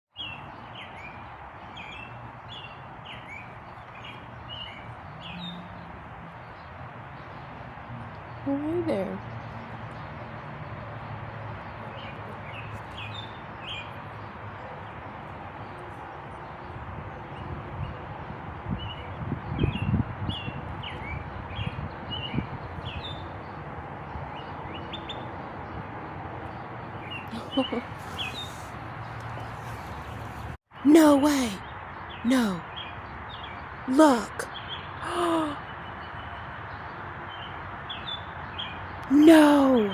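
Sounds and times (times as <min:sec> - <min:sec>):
small birds chirping: 0:00.1 - 0:18.0, 0:18.7 - 0:39.9.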